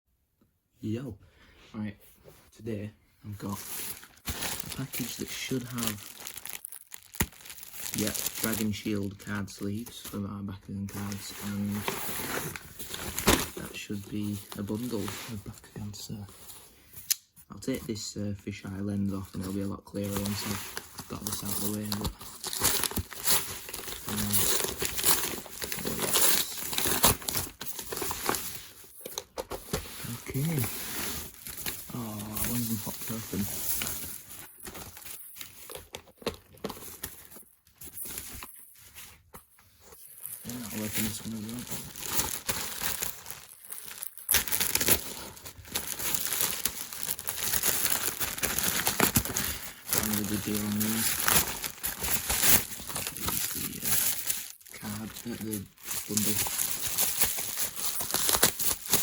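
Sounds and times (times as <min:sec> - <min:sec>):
packaging crinkling and tearing: 0:03.4 - 0:10.2, 0:10.9 - 0:15.4, 0:19.4 - 0:39.2, 0:39.8 - 0:59.0.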